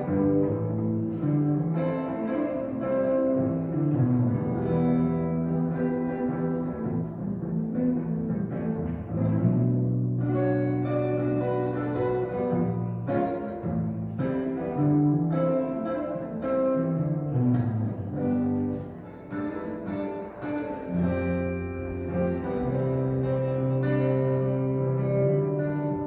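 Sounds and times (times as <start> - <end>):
low sustained bass tones: 0.0 - 26.0
slow electric guitar notes: 0.0 - 26.0.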